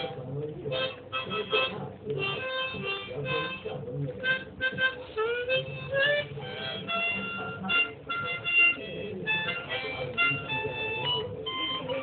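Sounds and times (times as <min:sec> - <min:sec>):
harmonica playing: 0:00.0 - 0:12.0.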